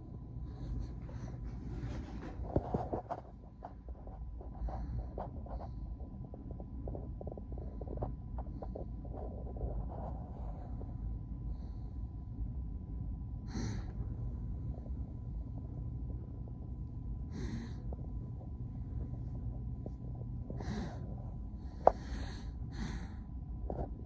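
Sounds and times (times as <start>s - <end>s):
low rumble: 0.0s - 24.0s
person breathing: 0.4s - 3.1s, 4.0s - 6.1s, 6.8s - 12.2s, 13.4s - 16.4s, 17.1s - 23.9s.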